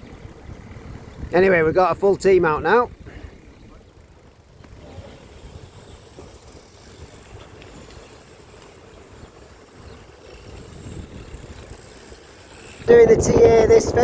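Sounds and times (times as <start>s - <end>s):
bicycle tyres hissing on road: 0.0s - 14.0s
wind buffeting microphone: 0.0s - 14.0s.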